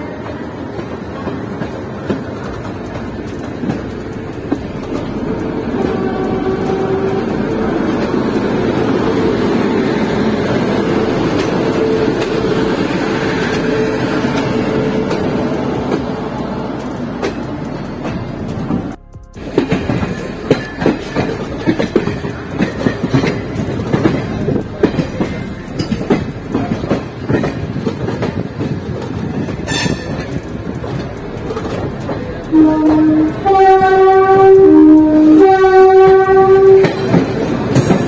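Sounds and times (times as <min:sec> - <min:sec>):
wheels clicking over rail joints: 0:00.0 - 0:18.9, 0:19.6 - 0:38.0
train wheel and rail rumble: 0:00.0 - 0:38.0.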